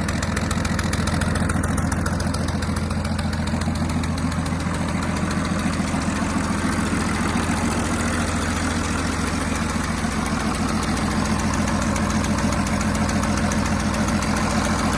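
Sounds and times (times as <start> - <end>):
diesel engine clattering: 0.0 - 14.9.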